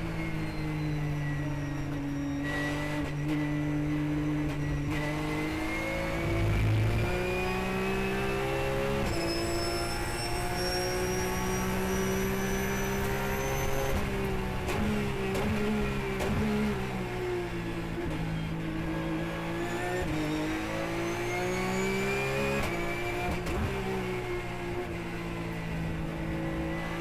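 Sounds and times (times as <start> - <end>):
race car engine: 0.0 - 27.0.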